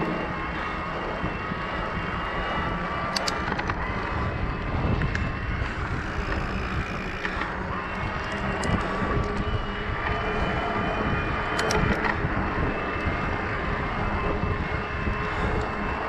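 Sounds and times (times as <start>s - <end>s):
faint steady whine: 0.0s - 16.0s
tyres rolling on asphalt: 0.0s - 16.0s
wind buffeting microphone: 0.0s - 16.0s.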